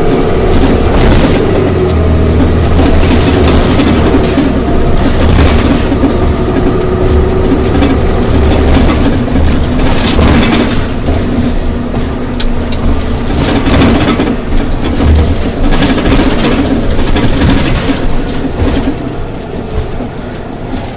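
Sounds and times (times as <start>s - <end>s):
bus engine rumbling: 0.0s - 20.9s.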